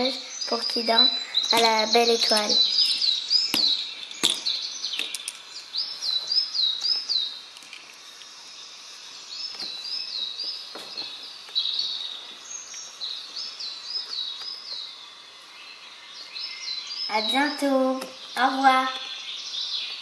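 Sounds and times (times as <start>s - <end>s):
small bird chirping: 0.0s - 20.0s.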